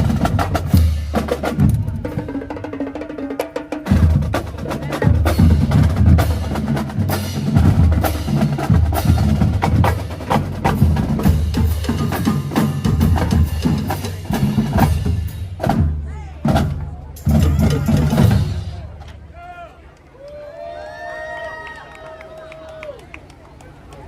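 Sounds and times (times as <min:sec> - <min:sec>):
bass and tenor drums: 0:00.0 - 0:19.7.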